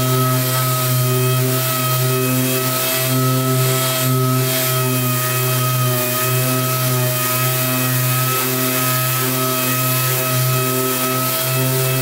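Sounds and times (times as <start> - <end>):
orbital sander running: 0.0 - 12.0.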